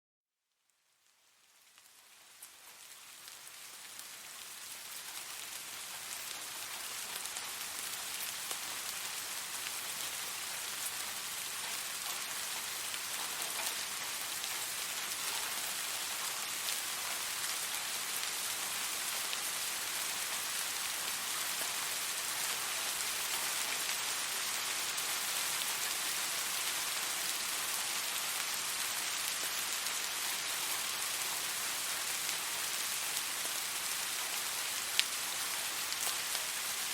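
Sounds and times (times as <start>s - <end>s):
steady rain hiss: 0.5s - 36.9s.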